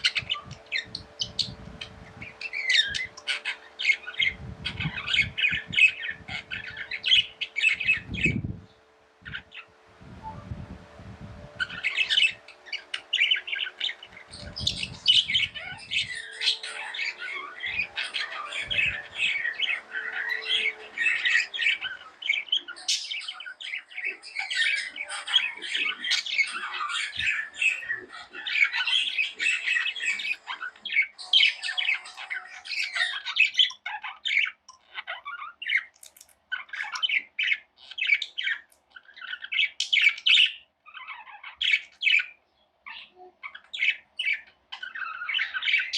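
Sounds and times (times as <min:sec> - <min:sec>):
parrots chirping and squawking: 0:00.0 - 0:09.9, 0:11.4 - 0:45.9.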